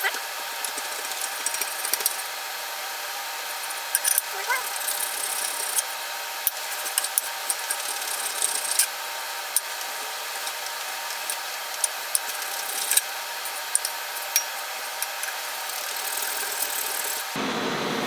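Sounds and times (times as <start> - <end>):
chisel scraping metal: 0.6 - 2.3, 3.5 - 8.9, 9.5 - 17.4.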